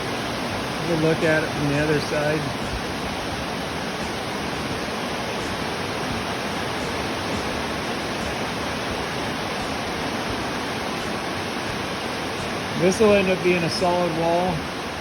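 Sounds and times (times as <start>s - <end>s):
heavy rain on a roof: 0.0s - 15.0s.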